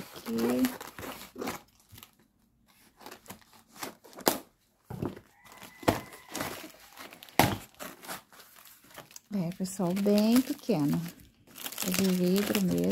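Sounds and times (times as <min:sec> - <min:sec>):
cardboard tearing: 0:00.0 - 0:02.2, 0:02.8 - 0:04.5, 0:05.4 - 0:12.9.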